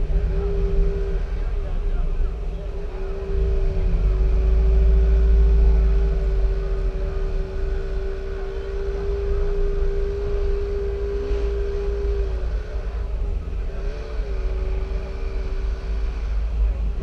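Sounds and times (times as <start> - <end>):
car engine rumbling: 0.0 - 17.0
steady hum: 0.0 - 17.0.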